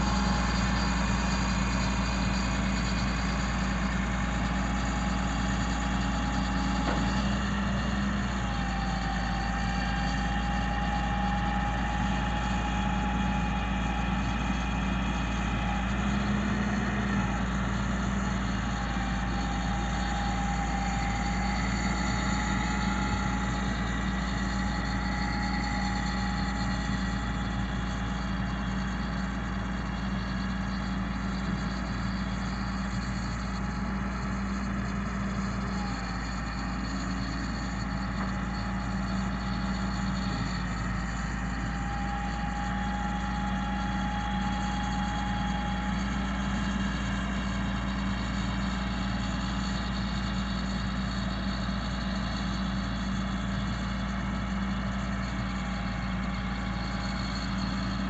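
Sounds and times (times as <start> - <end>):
diesel engine idling: 0.0 - 58.0
thin hydraulic whine: 0.0 - 58.0.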